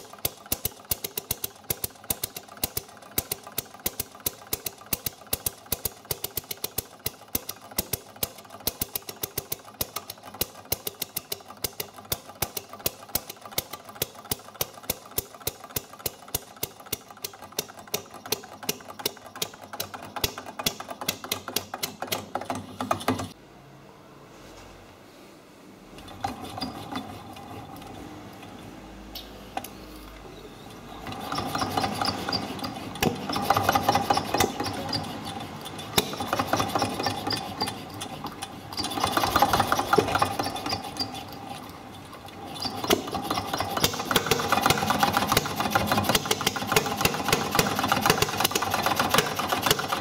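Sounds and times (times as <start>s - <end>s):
two-stroke engine popping: 0.0s - 23.4s, 31.0s - 41.3s, 42.6s - 50.0s.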